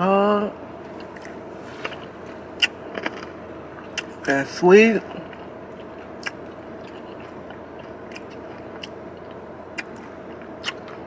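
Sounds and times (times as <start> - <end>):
steady low hum: 0.0 - 11.0
crunchy chewing: 0.8 - 4.3, 5.0 - 11.0.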